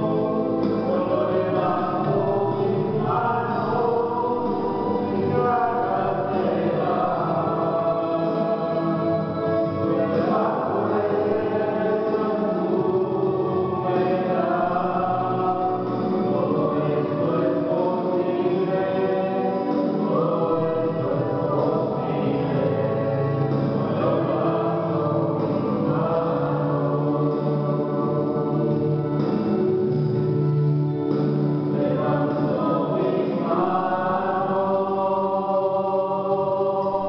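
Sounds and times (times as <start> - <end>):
group singing worship song: 0.0 - 37.0.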